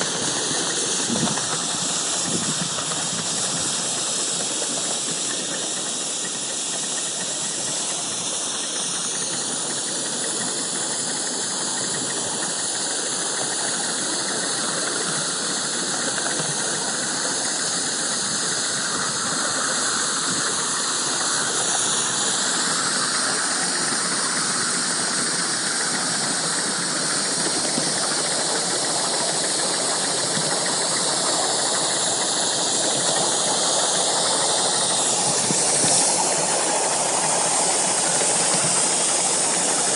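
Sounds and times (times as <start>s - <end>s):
steam hissing: 0.0s - 39.9s.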